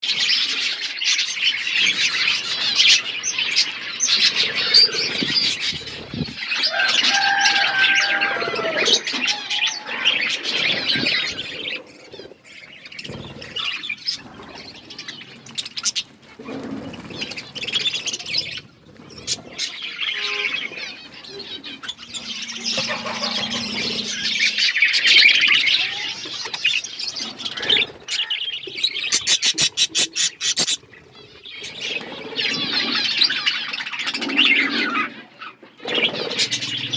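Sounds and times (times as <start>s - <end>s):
budgerigars chattering: 0.3s - 6.8s, 8.8s - 36.9s.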